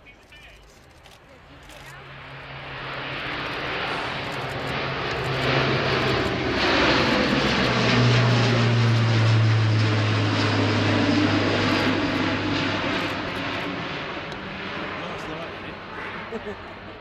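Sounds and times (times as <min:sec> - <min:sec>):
aircraft propeller drone: 0:00.0 - 0:17.0.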